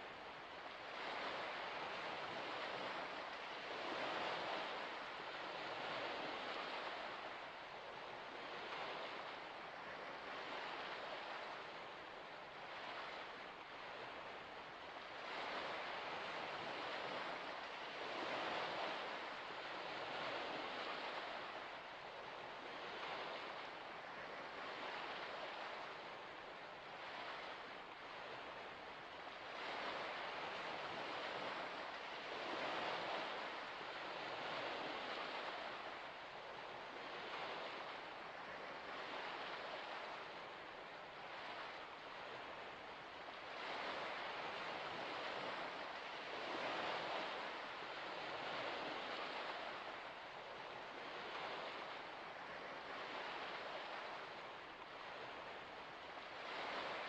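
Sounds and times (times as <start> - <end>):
small waves: 0.0 - 57.0
wind: 0.0 - 57.0.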